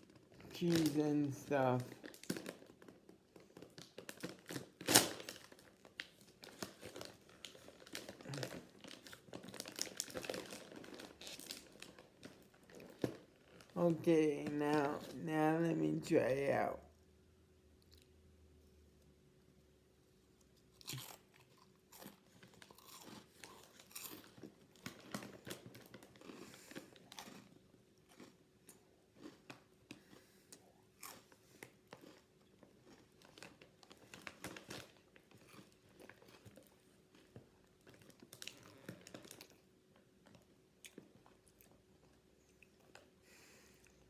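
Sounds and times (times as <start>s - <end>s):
person crunching crackers: 0.0s - 13.7s, 20.4s - 43.1s.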